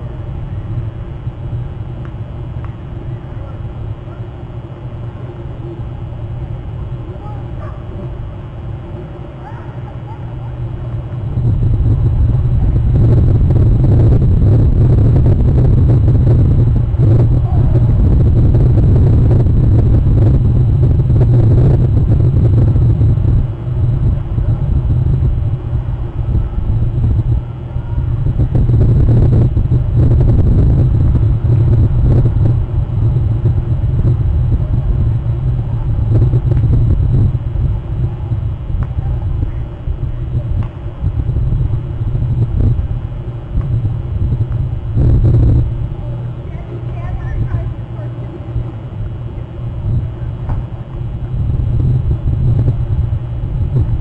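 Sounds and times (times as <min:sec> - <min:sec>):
loud low rumble: 0:00.0 - 0:54.0.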